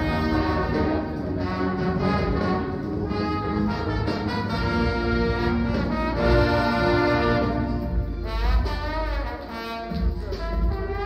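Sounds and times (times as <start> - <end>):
brass ensemble playing chords: 0.0 - 11.0.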